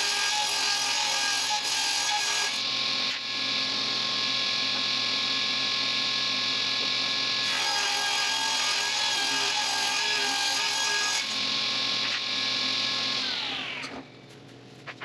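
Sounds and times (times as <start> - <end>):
woodworking machine whine: 0.0 - 15.0.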